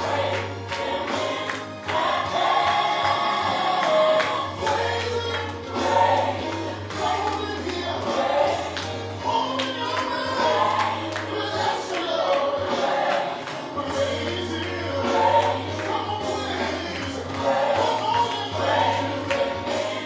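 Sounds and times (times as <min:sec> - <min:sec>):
choir singing gospel: 0:00.0 - 0:20.0
drums keeping a steady beat: 0:00.0 - 0:20.0.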